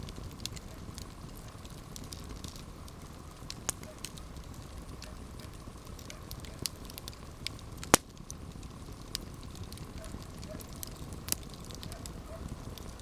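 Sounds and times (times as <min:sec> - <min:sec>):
campfire burning and crackling: 0:00.0 - 0:13.0
loud campfire pop: 0:00.0 - 0:13.0.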